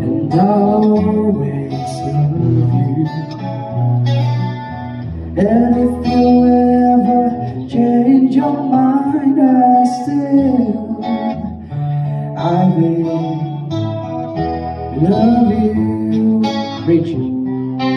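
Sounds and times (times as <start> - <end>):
bass line: 0.0 - 17.9
guitar accompaniment: 0.0 - 17.9
slow pop ballad: 0.0 - 17.9.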